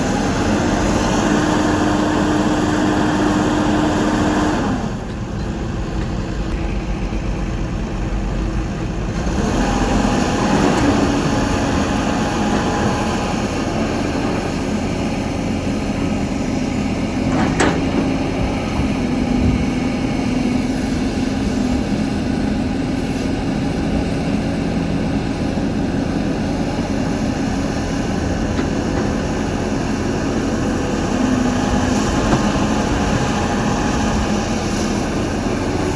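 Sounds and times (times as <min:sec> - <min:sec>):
excavator diesel engine working: 0:00.0 - 0:35.9.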